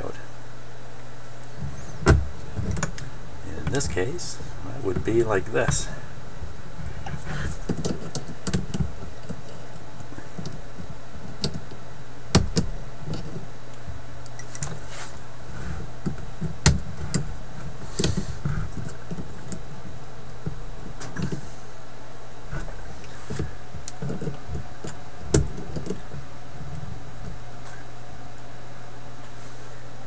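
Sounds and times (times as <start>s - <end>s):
steady low hum: 0.0s - 30.0s
hands handling wires clicking: 1.4s - 21.4s, 22.5s - 27.8s.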